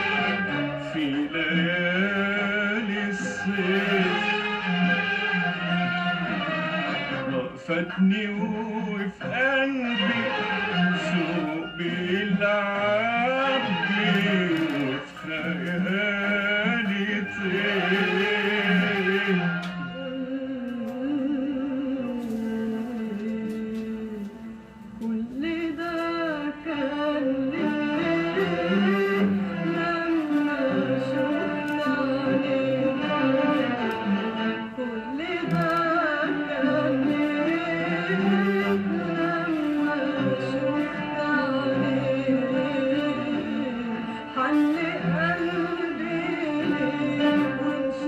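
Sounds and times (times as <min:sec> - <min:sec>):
bowed strings accompaniment: 0:00.0 - 0:48.0
person singing long held notes: 0:00.0 - 0:48.0.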